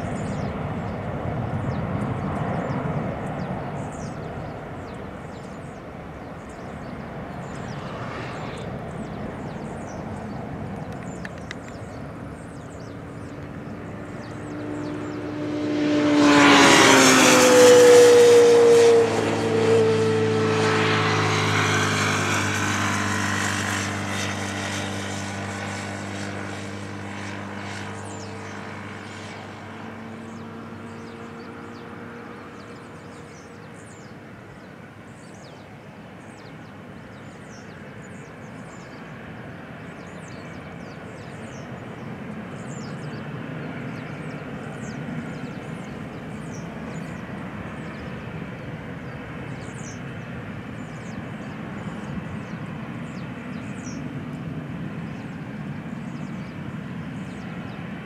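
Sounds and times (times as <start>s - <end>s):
jet engines whining at takeoff: 0.0s - 58.0s.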